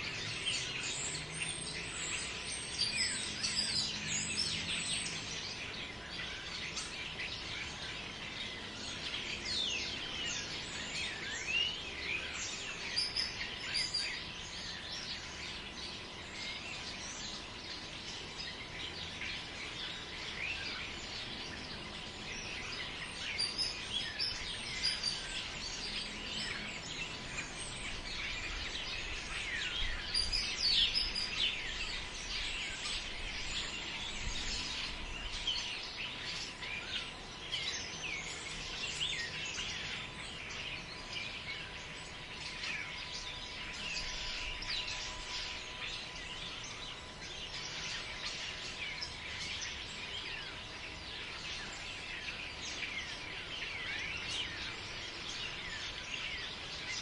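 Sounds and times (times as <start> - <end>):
birds chirping and calling: 0.0 - 57.0
wind hissing in trees: 0.0 - 57.0.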